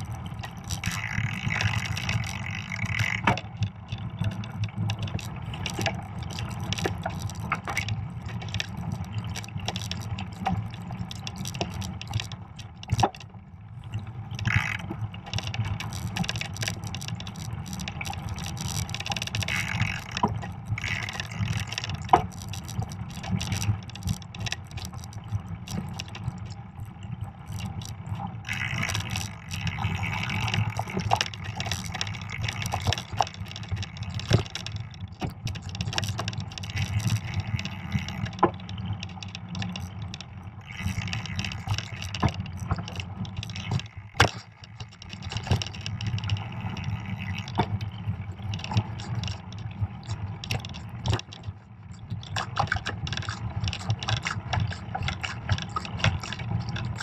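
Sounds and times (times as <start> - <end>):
bike rattling over bumps: 0.0 - 13.4, 14.4 - 57.0
bike tyres rolling over snow: 0.0 - 57.0.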